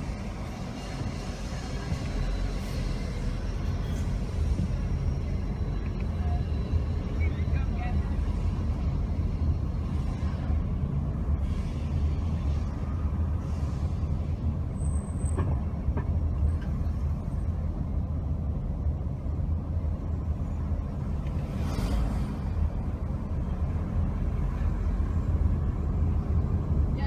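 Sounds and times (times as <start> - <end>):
car driving engine and tyre noise: 0.0 - 27.0.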